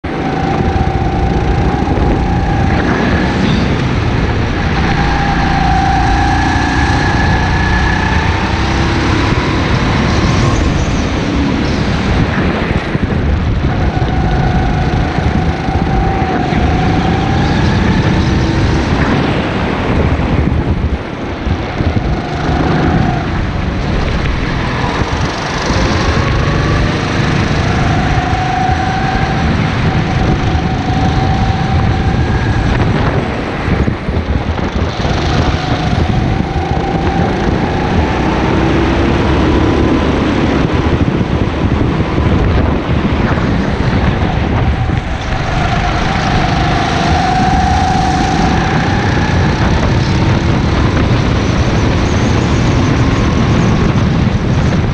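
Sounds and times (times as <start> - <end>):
go-kart engine revving: 0.0 - 54.9
wind buffeting microphone: 0.0 - 54.9.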